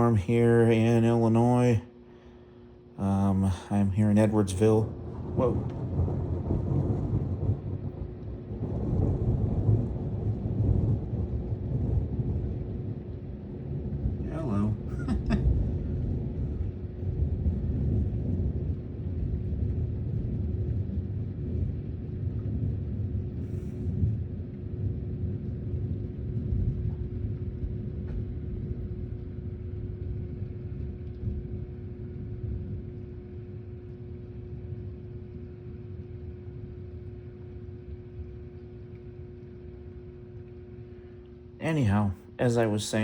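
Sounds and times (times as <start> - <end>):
thunder rumbling: 0.0 - 2.4, 3.0 - 43.0
faint steady hum: 0.0 - 43.0.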